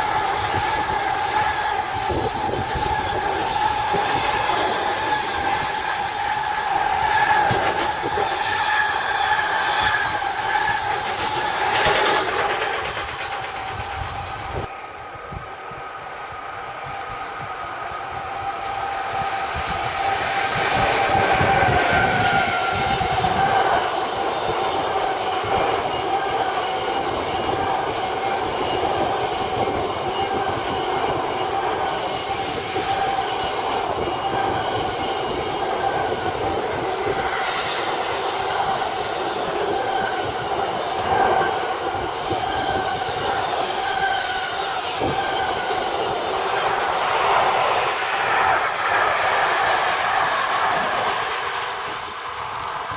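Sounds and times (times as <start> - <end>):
train wheels clattering on rails: 0.0 - 15.8, 18.2 - 52.9
high ringing wheel squeal: 0.0 - 52.6.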